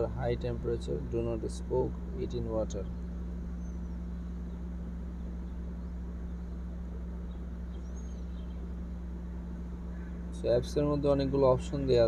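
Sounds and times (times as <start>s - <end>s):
low hum of room noise: 0.0s - 12.0s.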